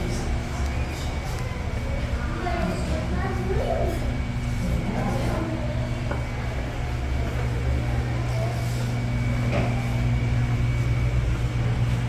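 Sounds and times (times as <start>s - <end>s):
electric fan motor humming: 0.0s - 12.0s.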